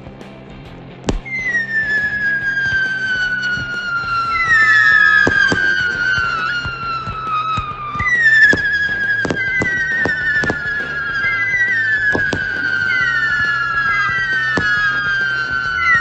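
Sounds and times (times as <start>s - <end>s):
firework bangs: 1.1s - 16.0s
firework whistles falling in pitch: 1.1s - 16.0s.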